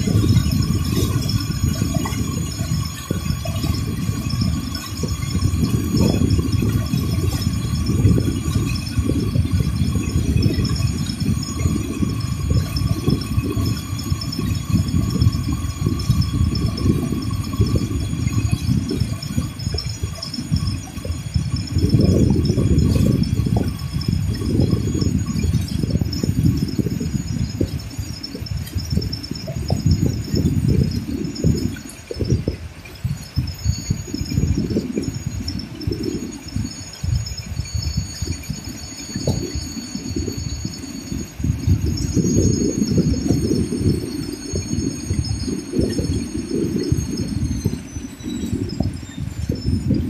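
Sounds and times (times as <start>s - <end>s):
boat engine running: 0.0s - 50.0s
faint steady whine: 0.0s - 50.0s
wind rumble on microphone: 0.0s - 50.0s.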